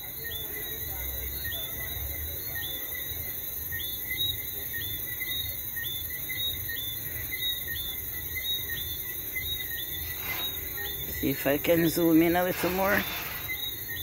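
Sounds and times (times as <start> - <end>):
crickets and insects chirping: 0.0 - 14.0.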